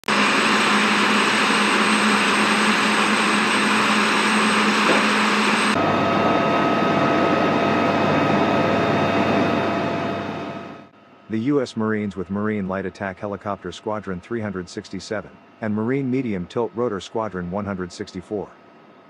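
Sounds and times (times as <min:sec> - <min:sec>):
helicopter cabin whine: 0:00.1 - 0:19.0
helicopter turbine and rotor noise: 0:00.1 - 0:19.0.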